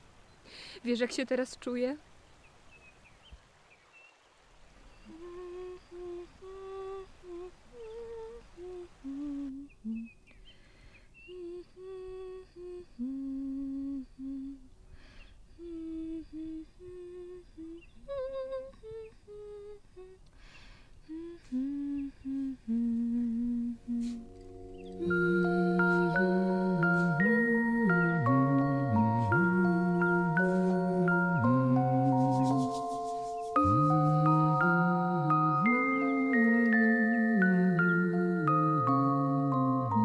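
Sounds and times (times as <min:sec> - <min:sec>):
person humming: 0:05.1 - 0:10.3, 0:11.2 - 0:14.8, 0:15.5 - 0:20.4, 0:21.0 - 0:40.0.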